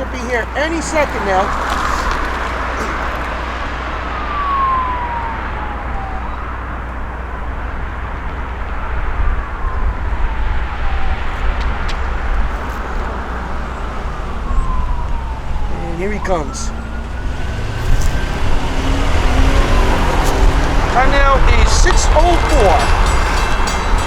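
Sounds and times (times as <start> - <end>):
emergency siren wailing: 0.0 - 24.0.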